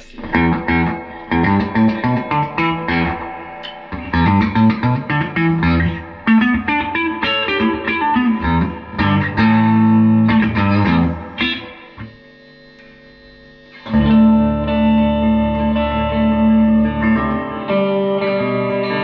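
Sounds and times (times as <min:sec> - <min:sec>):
clean electric guitar: 0:00.0 - 0:19.0.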